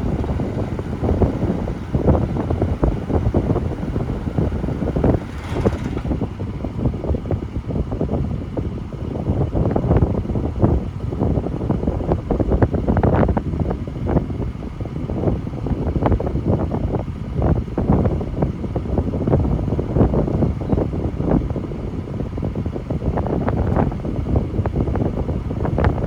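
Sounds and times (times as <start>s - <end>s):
buffeting and clatter: 0.0s - 26.0s
truck engine rumbling: 0.0s - 26.0s.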